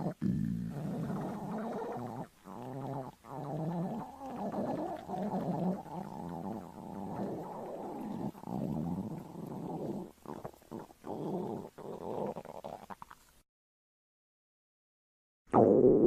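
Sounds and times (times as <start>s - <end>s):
stomach growling and gurgling: 0.0s - 13.4s, 15.5s - 16.0s.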